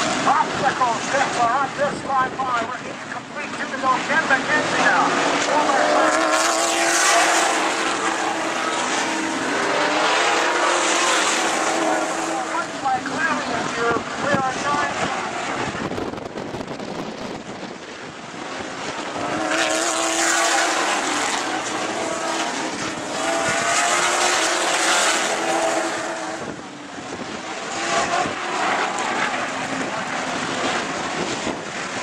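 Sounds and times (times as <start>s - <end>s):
stock car engines racing past: 0.0s - 16.0s, 18.2s - 32.0s.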